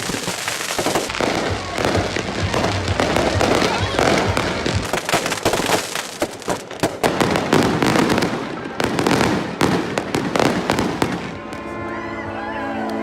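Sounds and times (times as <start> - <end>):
fireworks bangs and crackles: 0.0 - 11.9.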